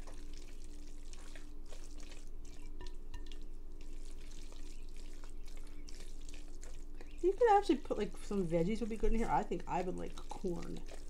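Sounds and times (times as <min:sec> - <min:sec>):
spatula squishing and scraping: 0:00.0 - 0:11.0
steady low hum: 0:00.0 - 0:11.0.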